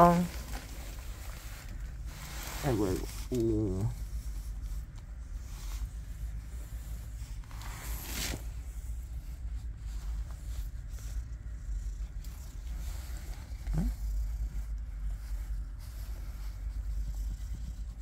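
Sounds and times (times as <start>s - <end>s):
hand rubbing cat fur: 0.0s - 18.0s
steady low rumble: 0.0s - 18.0s.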